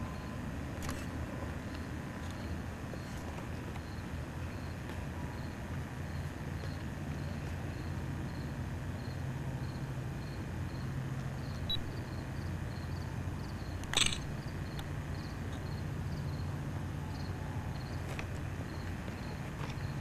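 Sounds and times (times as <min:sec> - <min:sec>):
faint insect chirping: 0:00.0 - 0:00.4, 0:01.6 - 0:20.0
distant traffic hum: 0:00.0 - 0:20.0.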